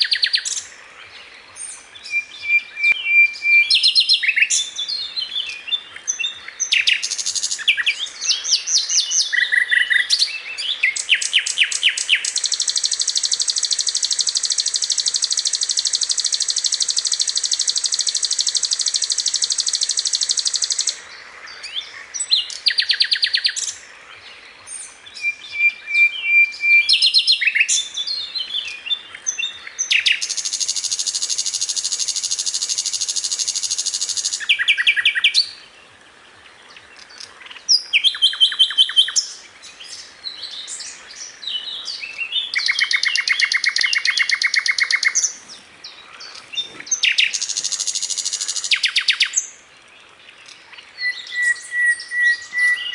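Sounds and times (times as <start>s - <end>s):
bird trilling and chirping: 2.0s - 21.0s, 24.7s - 35.6s, 37.0s - 49.5s, 50.4s - 52.9s.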